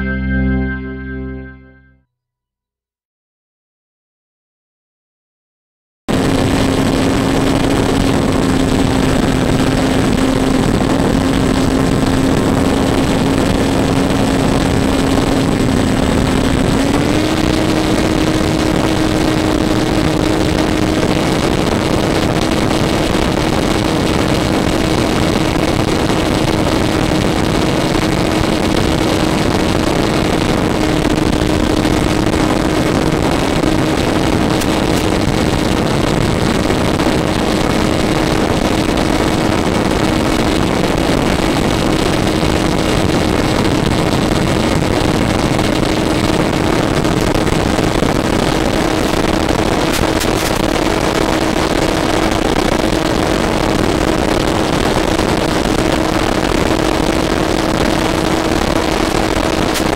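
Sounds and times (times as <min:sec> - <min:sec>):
model airplane motor drone: 0:06.1 - 0:59.9.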